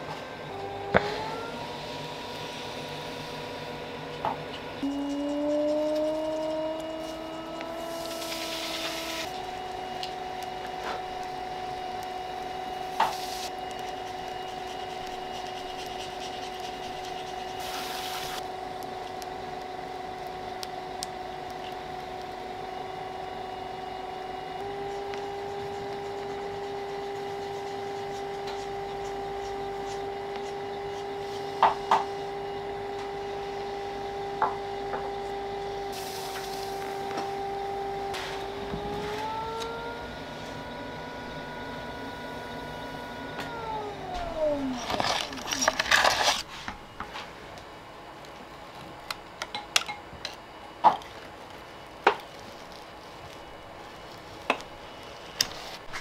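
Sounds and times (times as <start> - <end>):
potter's wheel motor whine: 0.0 - 56.0.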